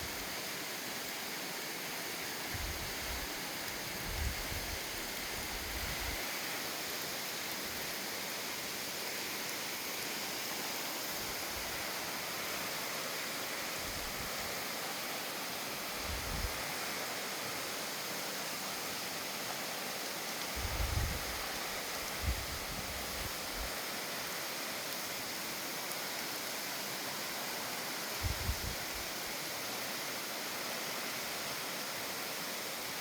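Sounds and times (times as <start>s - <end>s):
falling water rushing: 0.0s - 33.0s.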